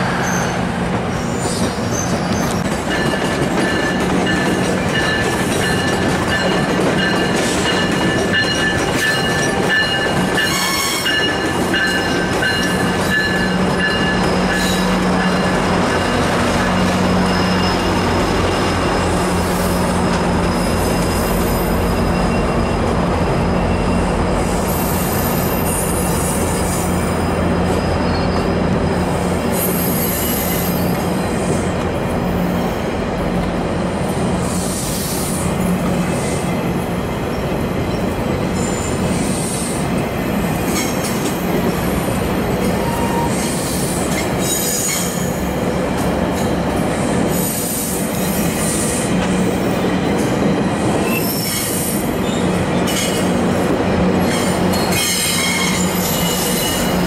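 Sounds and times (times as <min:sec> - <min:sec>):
train wheels squealing: 0:00.0 - 0:31.7, 0:37.3 - 0:39.8, 0:42.7 - 0:45.6, 0:47.3 - 0:53.4, 0:54.1 - 0:57.0
train rumble and hum: 0:00.0 - 0:57.0.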